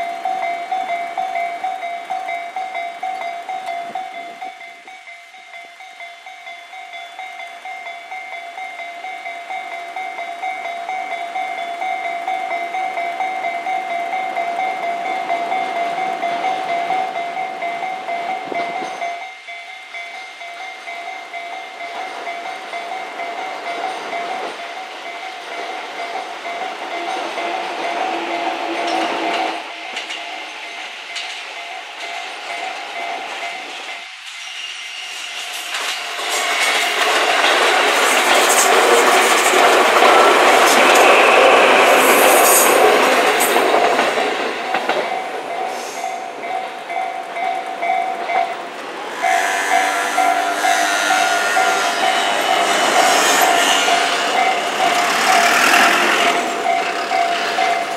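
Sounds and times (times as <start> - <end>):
railway crossing bell ringing: 0.0 - 57.9
train rushing: 0.0 - 57.9.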